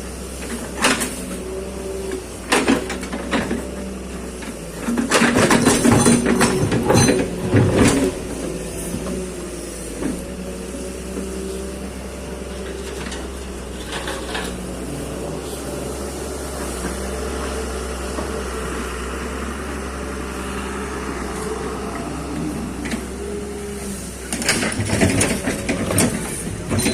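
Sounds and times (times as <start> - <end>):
excavator engine running: 0.0 - 26.9.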